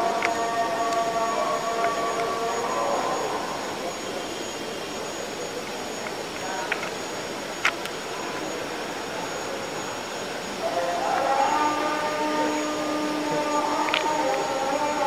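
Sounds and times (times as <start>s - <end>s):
hum of event hall: 0.0s - 15.0s.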